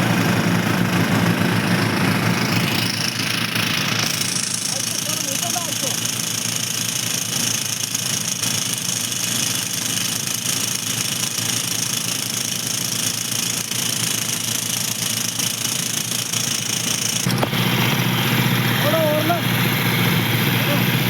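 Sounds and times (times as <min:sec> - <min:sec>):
heavy drill engine running: 0:00.0 - 0:21.0
rapid knocking of drill: 0:00.0 - 0:21.0.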